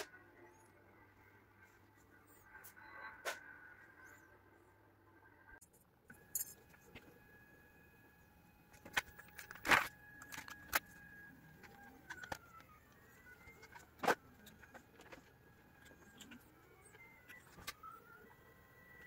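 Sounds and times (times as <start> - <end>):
stepper motors whining: 0.0 - 19.0.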